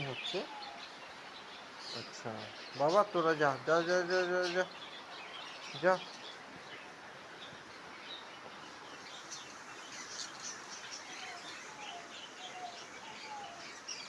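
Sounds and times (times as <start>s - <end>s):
caged birds chirping: 0.0s - 14.0s.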